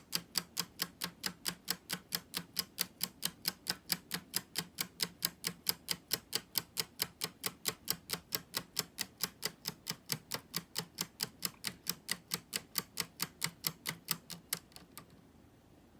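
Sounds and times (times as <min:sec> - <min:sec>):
plastic clockwork ticking: 0:00.0 - 0:15.1.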